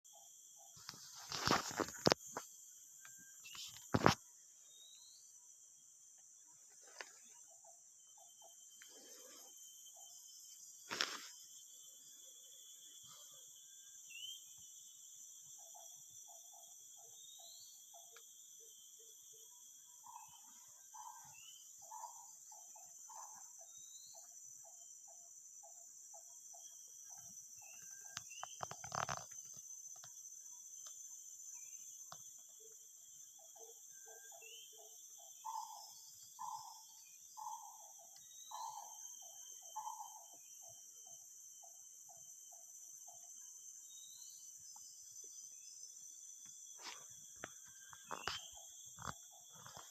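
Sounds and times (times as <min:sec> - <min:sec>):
insects droning: 0:00.1 - 0:49.9.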